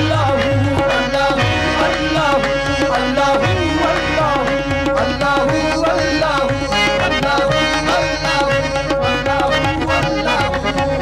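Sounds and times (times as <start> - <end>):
harmonium drone: 0.0 - 11.0
tabla rhythm: 0.0 - 11.0.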